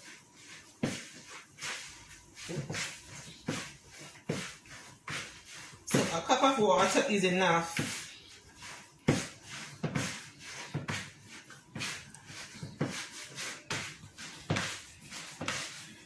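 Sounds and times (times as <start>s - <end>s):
hands kneading wet dough: 0.0s - 16.0s.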